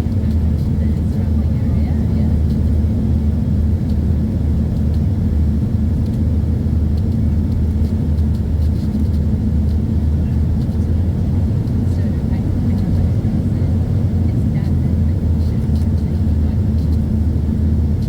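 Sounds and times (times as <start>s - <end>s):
jet cabin engine hum: 0.0s - 18.0s.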